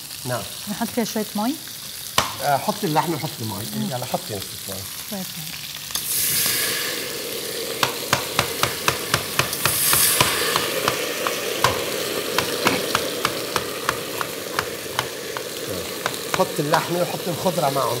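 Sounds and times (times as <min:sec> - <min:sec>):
beef sizzling in a frying pan: 0:00.0 - 0:18.0.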